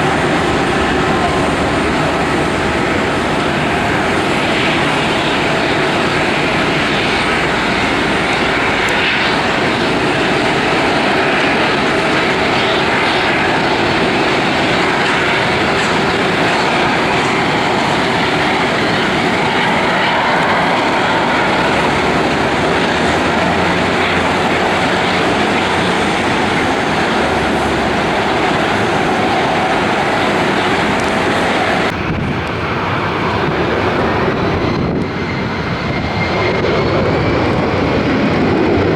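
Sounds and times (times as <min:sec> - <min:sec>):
airliner engines running: 0:00.0 - 0:38.9.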